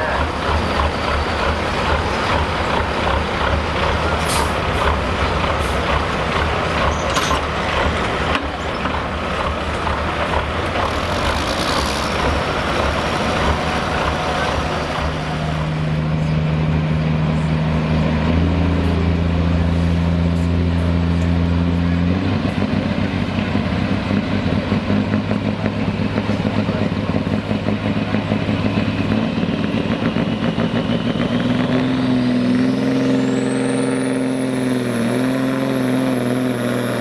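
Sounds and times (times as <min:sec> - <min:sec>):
truck diesel engines running: 0:00.0 - 0:37.0.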